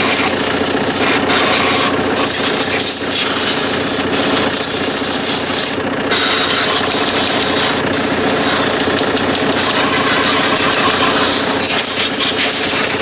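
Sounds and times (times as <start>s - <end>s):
compressed air hissing: 0.0s - 9.2s, 11.0s - 13.0s
diesel tractor engine idling: 0.0s - 13.0s.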